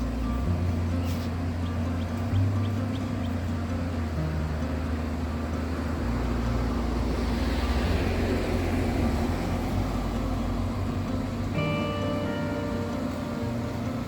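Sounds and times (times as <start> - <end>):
car road noise rumble: 0.0 - 14.0
music: 0.0 - 14.0.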